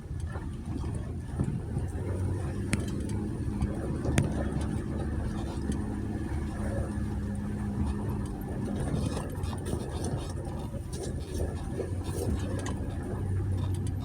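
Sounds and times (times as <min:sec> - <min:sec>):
engine running at a crawl: 0:00.0 - 0:14.0.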